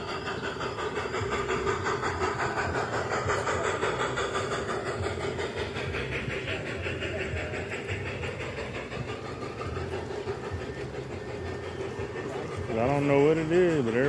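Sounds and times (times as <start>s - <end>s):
model trains whirring and rumbling: 0.0s - 14.0s.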